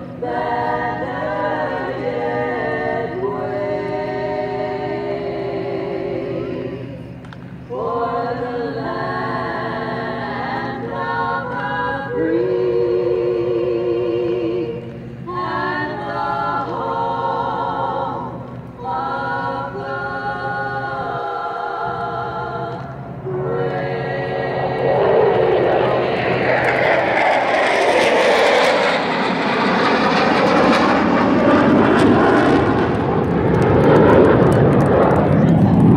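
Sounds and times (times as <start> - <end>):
choir singing unaccompanied: 0.0 - 29.3
airplane flying past: 0.0 - 35.9
steady low rumble: 0.0 - 35.9.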